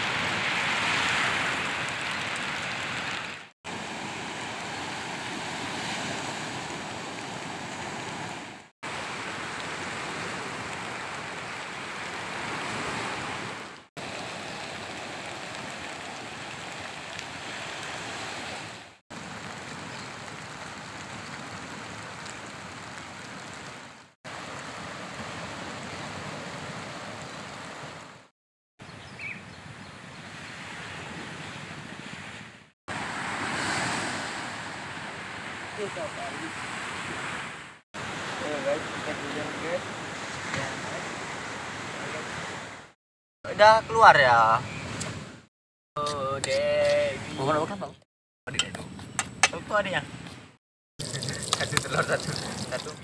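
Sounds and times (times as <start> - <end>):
rushing water: 0.0 - 28.3, 30.4 - 43.0, 51.0 - 53.0.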